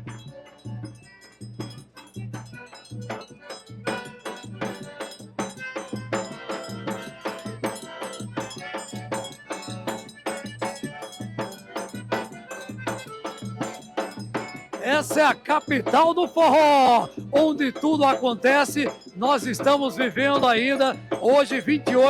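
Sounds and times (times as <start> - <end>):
accordion chords: 0.0 - 22.0
bass drum steady beat: 0.0 - 22.0.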